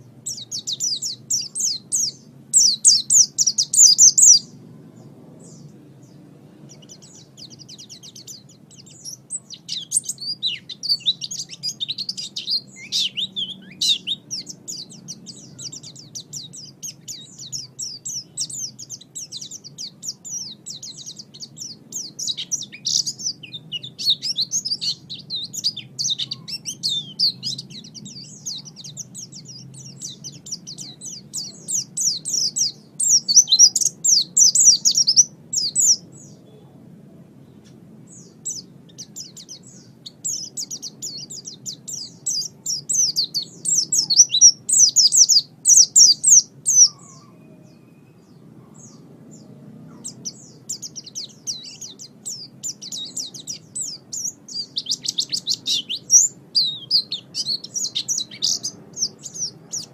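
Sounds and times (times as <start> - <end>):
songbird chirping and twittering: 0.0 - 59.9.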